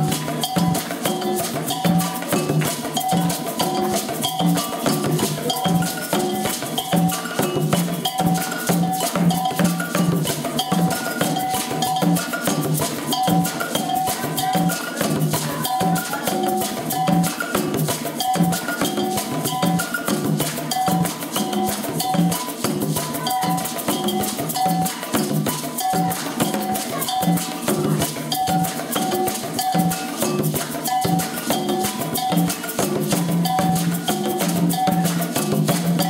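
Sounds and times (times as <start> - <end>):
conga drums: 0.0 - 36.0
metal bells struck with sticks: 0.0 - 36.0
shakers ticking: 0.0 - 36.0.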